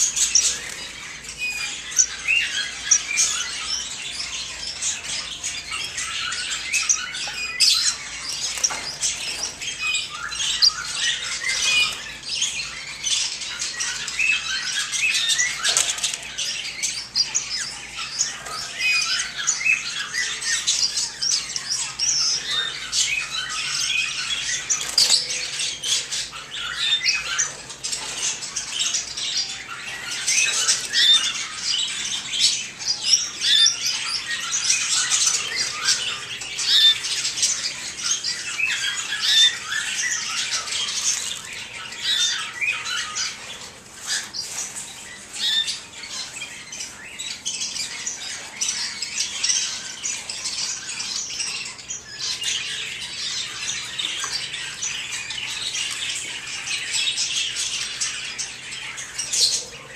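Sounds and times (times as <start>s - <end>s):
cage birds chirping: 0.0s - 59.9s.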